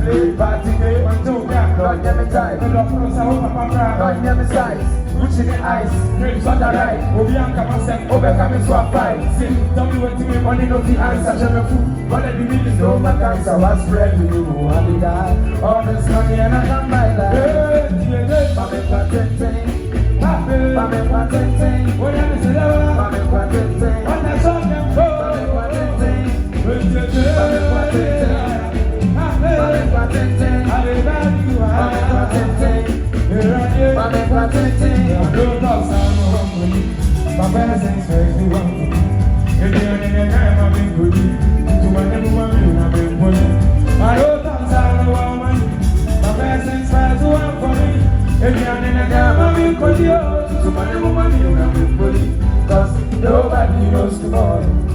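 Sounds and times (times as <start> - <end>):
live band playing upbeat song: 0.0 - 54.9.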